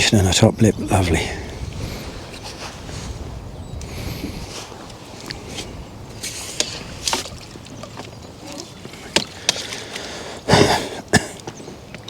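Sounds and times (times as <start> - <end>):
water splashes: 0.0 - 12.0.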